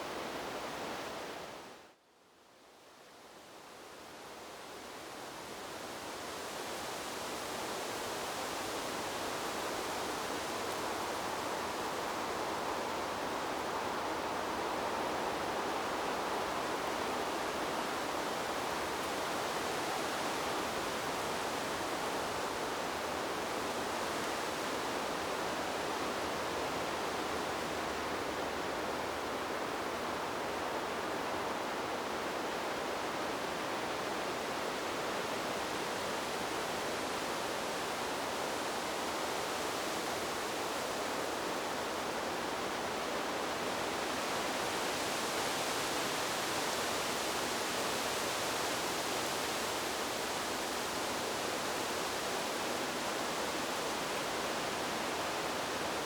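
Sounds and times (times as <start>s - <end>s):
wind blowing through trees: 0.0s - 56.0s.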